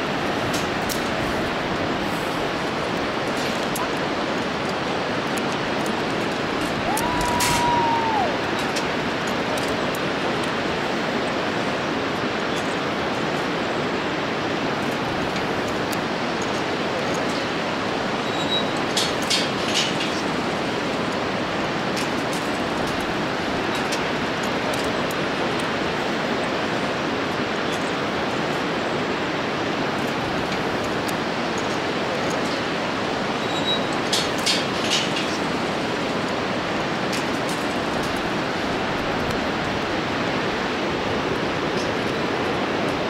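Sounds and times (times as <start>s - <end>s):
whitewater rapids roaring: 0.0s - 43.0s.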